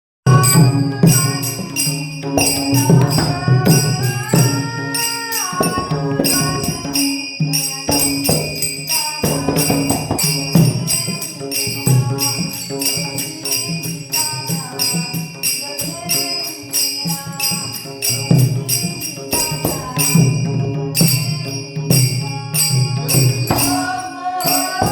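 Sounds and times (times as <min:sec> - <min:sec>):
hand cymbals struck: 0:00.3 - 0:24.9
woman singing devotional song: 0:00.3 - 0:24.9.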